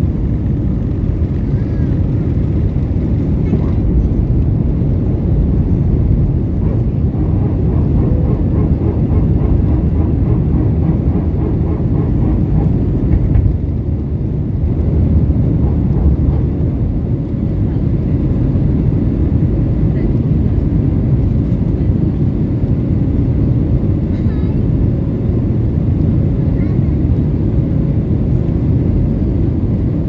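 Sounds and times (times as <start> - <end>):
jet engines at high thrust: 0.0 - 30.0.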